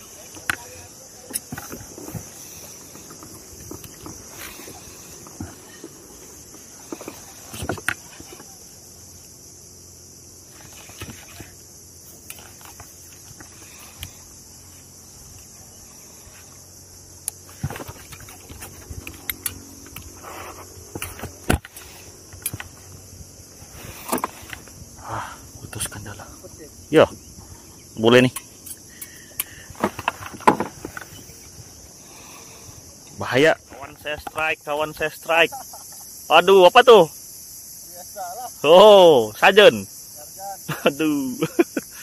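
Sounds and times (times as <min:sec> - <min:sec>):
steady high hiss: 0:00.0 - 0:42.0.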